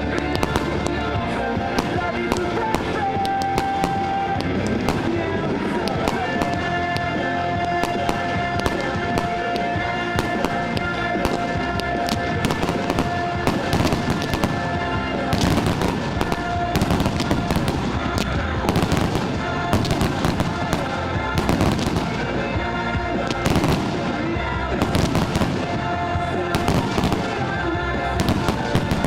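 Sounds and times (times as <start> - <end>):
fireworks crackling and popping: 0.0 - 29.0
music with held notes: 0.0 - 29.0.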